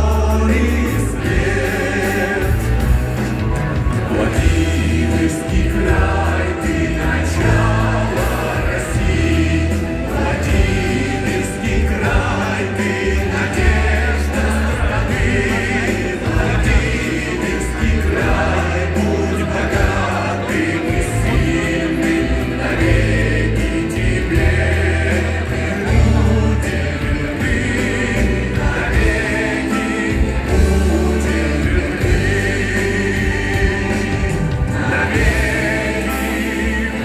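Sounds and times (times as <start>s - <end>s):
choir singing: 0.0s - 37.0s.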